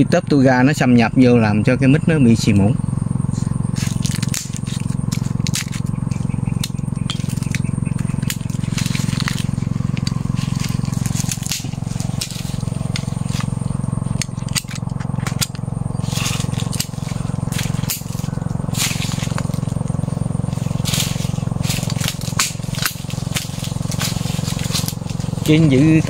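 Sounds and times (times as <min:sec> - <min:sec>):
steady low hum: 0:00.0 - 0:26.0
dry branch snapping: 0:03.4 - 0:25.6.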